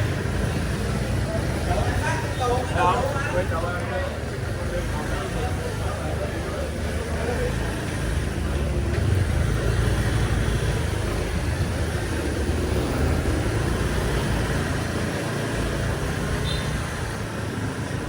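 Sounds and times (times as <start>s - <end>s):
passing vehicle engines: 0.0s - 18.0s.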